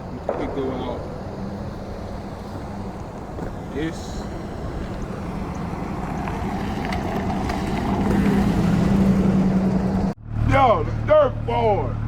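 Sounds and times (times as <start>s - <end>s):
wind noise: 0.0s - 10.1s
engine hum: 0.0s - 12.0s.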